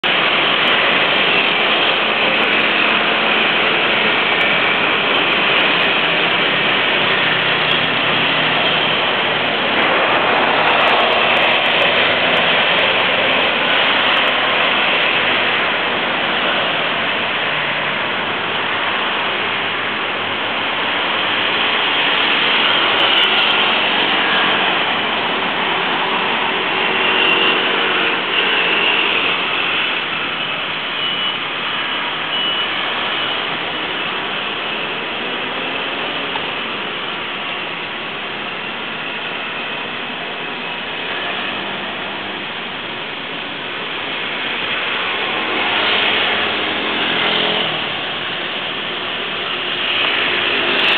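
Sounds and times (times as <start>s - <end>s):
dense street traffic: 0.0s - 50.9s
engine hum: 0.0s - 50.9s
rush of tyres: 0.0s - 50.9s.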